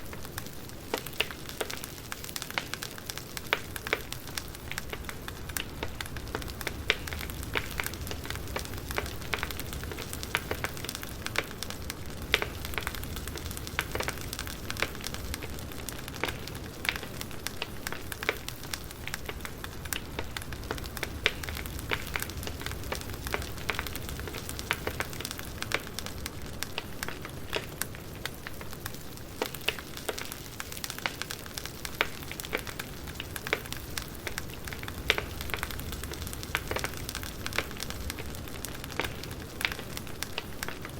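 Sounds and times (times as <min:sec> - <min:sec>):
campfire flames rumbling: 0:00.0 - 0:40.9
wood crackling and popping: 0:00.0 - 0:40.9.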